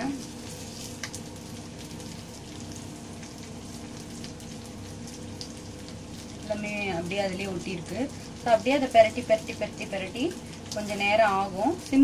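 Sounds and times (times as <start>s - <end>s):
prawns frying in oil: 0.0s - 12.0s.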